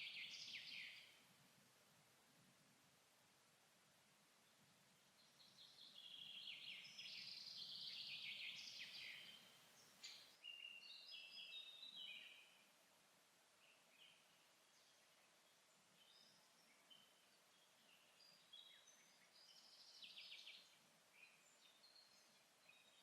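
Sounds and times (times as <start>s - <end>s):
songbird singing: 0.0s - 1.3s, 4.3s - 12.9s, 13.5s - 23.0s.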